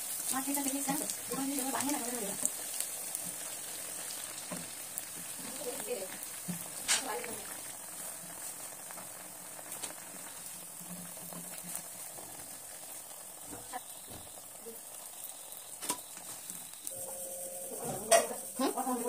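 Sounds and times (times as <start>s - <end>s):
cutlets sizzling in oil: 0.0s - 19.0s.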